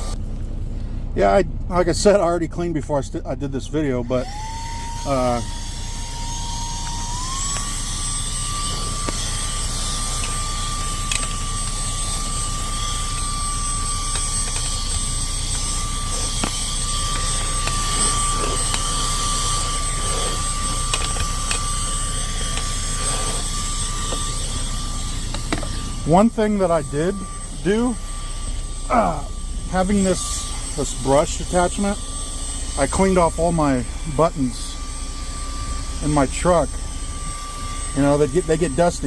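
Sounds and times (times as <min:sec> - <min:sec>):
handheld vacuum whining: 0:00.0 - 0:00.5, 0:04.0 - 0:39.0.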